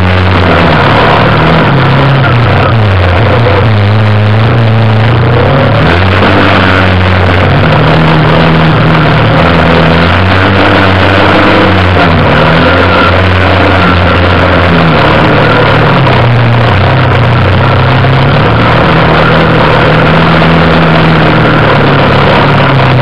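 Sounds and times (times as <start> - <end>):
atv engine running: 0.0 - 23.0
constant rushing noise: 0.0 - 23.0.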